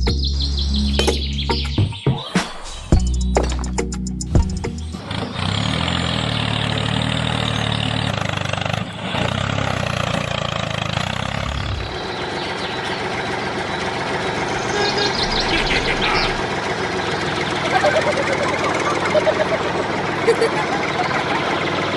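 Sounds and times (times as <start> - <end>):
tractor engine idling: 2.9 - 21.9.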